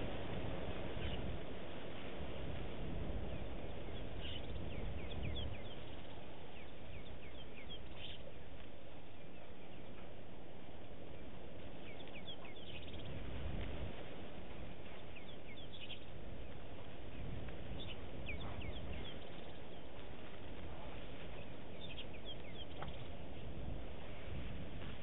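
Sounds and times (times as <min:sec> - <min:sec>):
steady low outdoor noise: 0:00.0 - 0:25.0.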